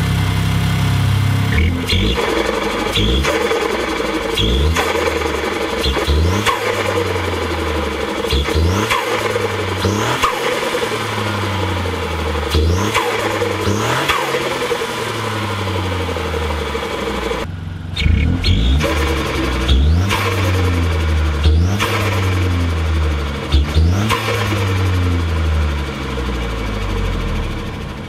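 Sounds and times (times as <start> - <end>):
car engine accelerating through gears: 0.0 - 28.0.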